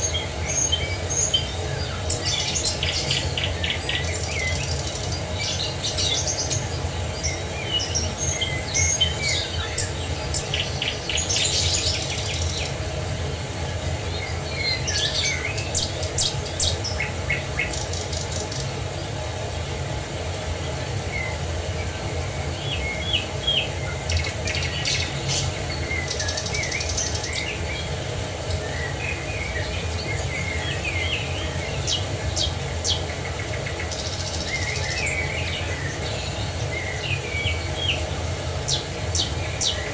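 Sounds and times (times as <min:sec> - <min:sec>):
small birds chirping: 0:00.0 - 0:19.2, 0:20.6 - 0:39.9.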